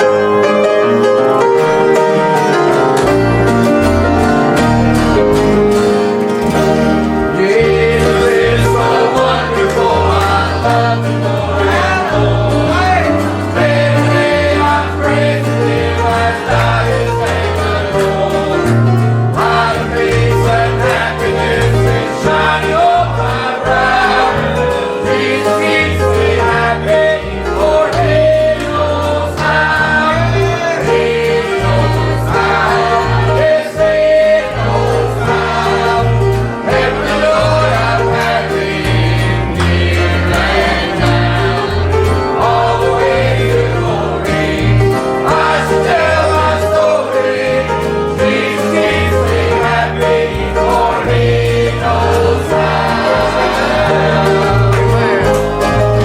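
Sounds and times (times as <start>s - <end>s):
congregation singing a hymn: 0.0s - 56.0s
instrumental accompaniment with bass: 0.0s - 56.0s.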